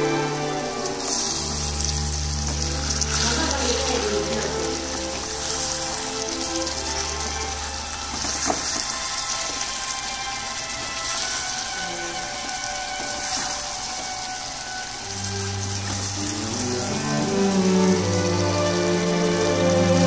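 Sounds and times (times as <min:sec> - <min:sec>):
background music of held notes: 0:00.0 - 0:20.0
curry sizzling while stirred: 0:00.0 - 0:20.0.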